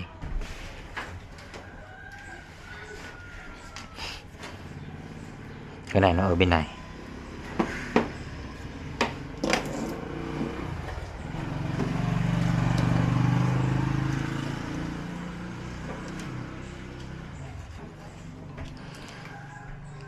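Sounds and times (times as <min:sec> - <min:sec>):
passing vehicle engine hum: 0:02.5 - 0:20.0.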